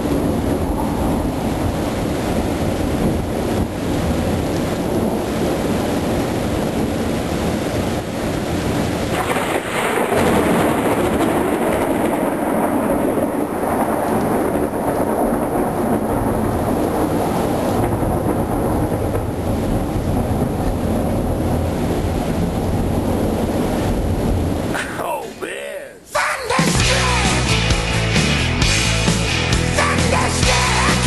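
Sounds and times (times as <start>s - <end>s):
thunder rumbling: 0.0s - 25.0s
steady rain: 0.0s - 31.0s.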